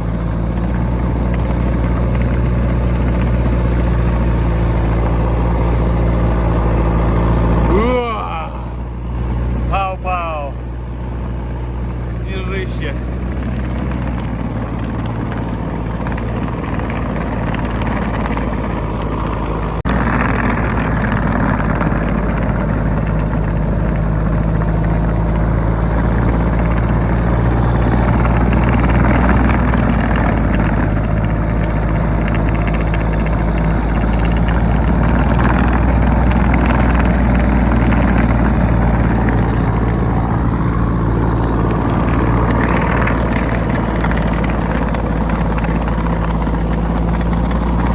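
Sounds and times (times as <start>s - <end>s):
diesel snow vehicle engine running: 0.0s - 47.9s.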